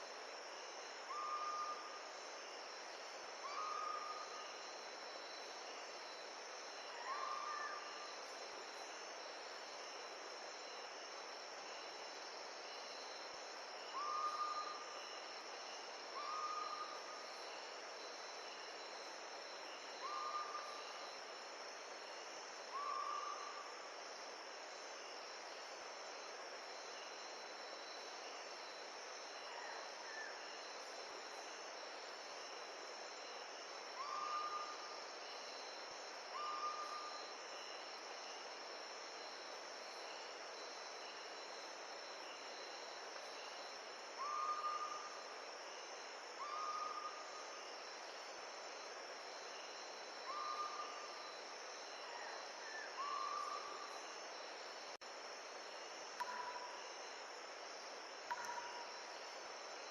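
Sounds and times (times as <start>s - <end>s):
insects trilling: 0.0s - 59.9s
wind and surf hiss: 0.0s - 59.9s.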